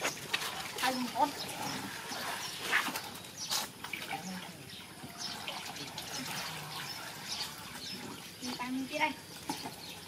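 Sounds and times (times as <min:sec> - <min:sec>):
water splashing and dribbling: 0:00.0 - 0:10.0.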